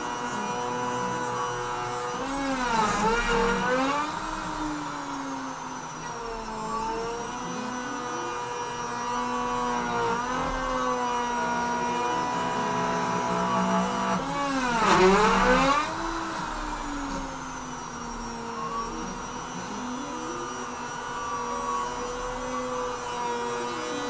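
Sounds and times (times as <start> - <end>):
router whining while carving wood: 0.0 - 24.0.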